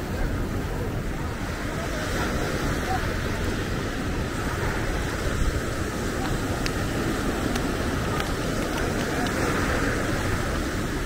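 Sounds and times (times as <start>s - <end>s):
surf: 0.0s - 11.0s
wind buffeting microphone: 0.0s - 11.0s.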